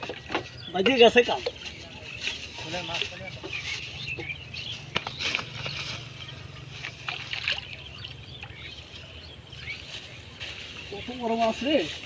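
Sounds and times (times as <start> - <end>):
rustles and knocks in plants: 0.0 - 7.8, 8.5 - 12.0.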